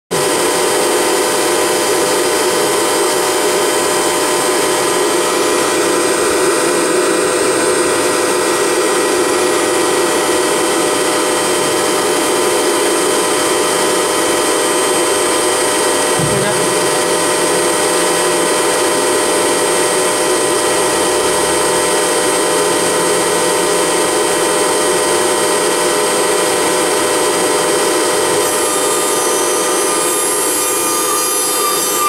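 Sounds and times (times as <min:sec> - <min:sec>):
router bit cutting wood: 0:00.2 - 0:32.0
router spindle whine: 0:00.2 - 0:32.0.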